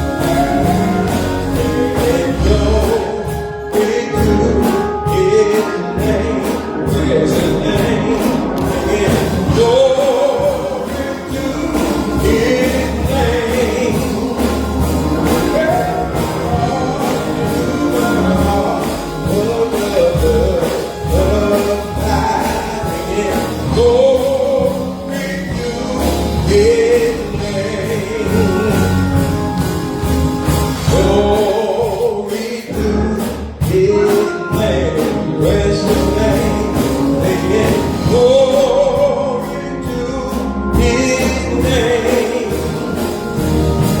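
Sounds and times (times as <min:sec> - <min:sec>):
choir singing gospel music: 0:00.0 - 0:44.0.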